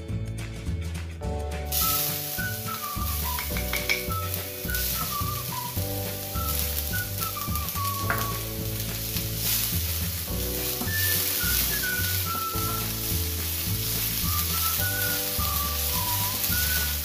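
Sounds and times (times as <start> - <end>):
background music: 0.0 - 17.0
onion sizzling in frying pan: 1.6 - 17.0
wooden spatula stirring: 1.7 - 17.0.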